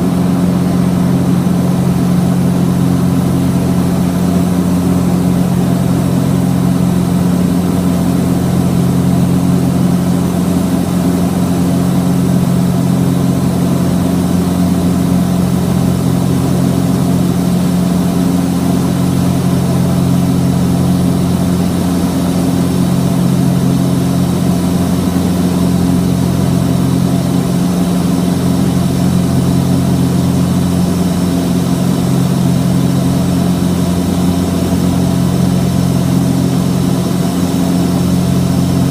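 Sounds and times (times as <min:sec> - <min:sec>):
propeller aircraft engines droning: 0:00.0 - 0:38.9.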